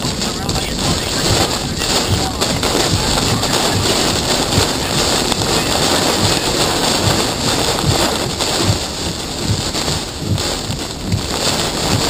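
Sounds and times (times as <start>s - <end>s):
rain: 0.0s - 12.0s
strong wind on microphone: 0.0s - 12.0s
wind gusts buffeting microphone: 0.0s - 12.0s.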